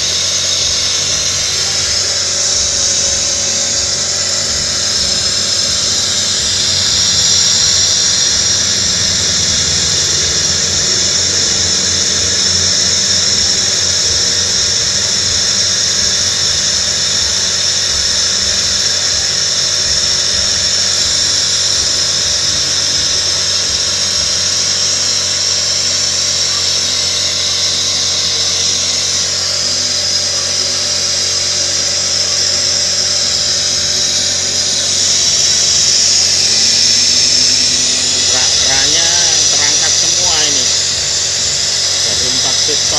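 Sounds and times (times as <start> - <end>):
car engine running: 0.0 - 16.4, 20.3 - 42.9
loud high-pitched hiss: 0.0 - 42.9.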